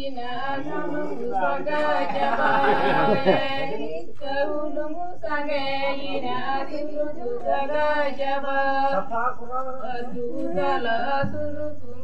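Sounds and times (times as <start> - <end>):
women singing in unison: 0.0 - 12.0.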